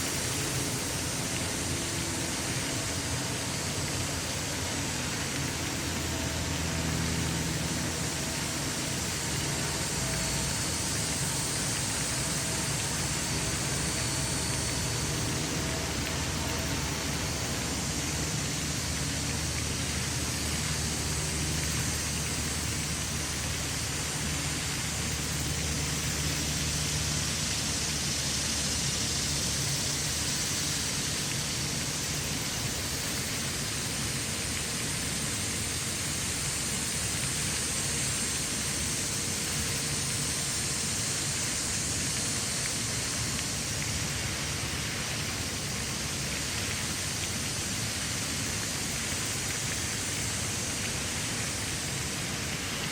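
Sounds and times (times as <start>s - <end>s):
steady rushing noise: 0.0s - 52.9s.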